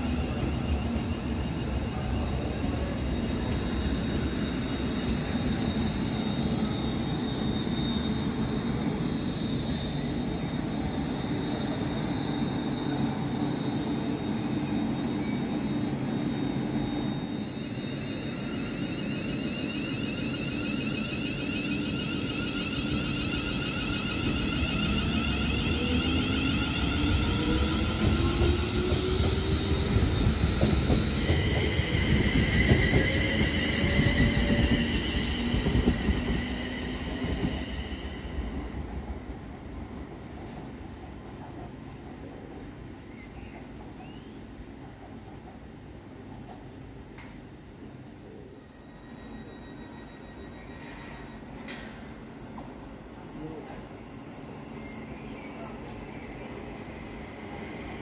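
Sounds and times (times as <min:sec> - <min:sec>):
train wheels rumbling on rail: 0:00.0 - 0:47.4.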